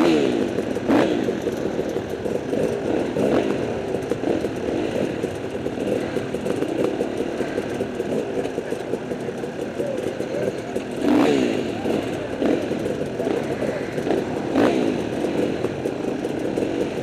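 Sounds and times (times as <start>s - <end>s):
motorcycle engines idling and revving: 0.0s - 17.0s.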